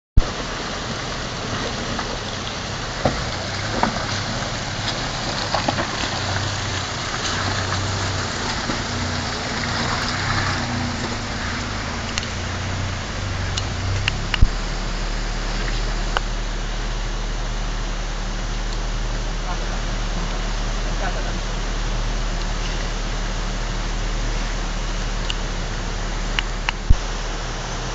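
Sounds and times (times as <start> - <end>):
river water rushing: 0.2 - 27.9
vehicle engine running low: 0.2 - 27.9.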